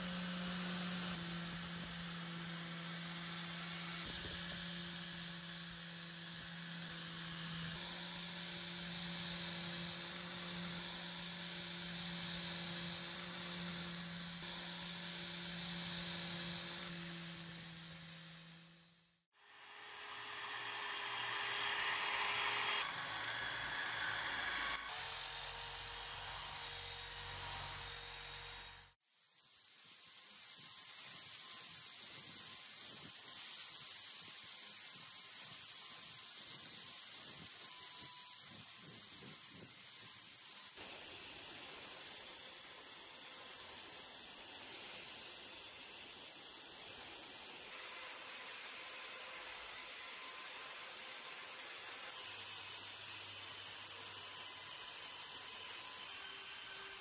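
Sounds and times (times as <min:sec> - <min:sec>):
small power tool running: 0:00.0 - 0:57.0.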